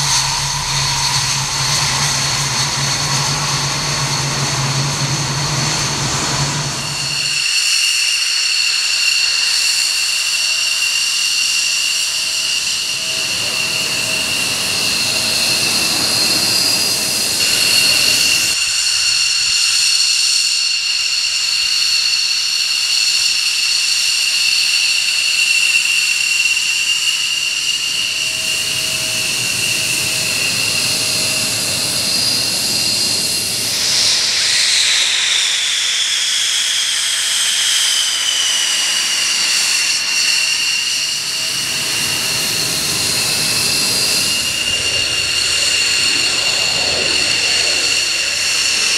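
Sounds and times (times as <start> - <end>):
jet passing whine: 0.0 - 18.9, 26.5 - 48.9
jet engines whining: 0.0 - 48.9.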